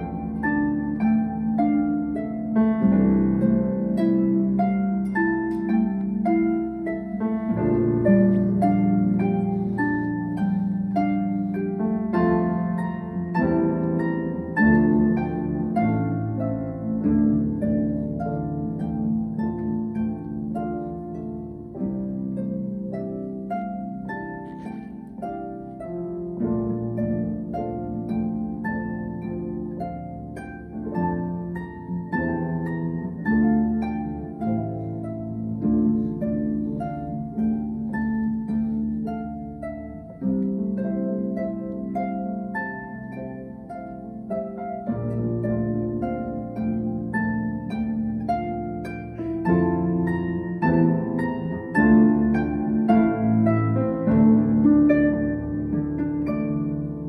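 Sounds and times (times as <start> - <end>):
harp playing plucked notes: 0.0 - 57.0.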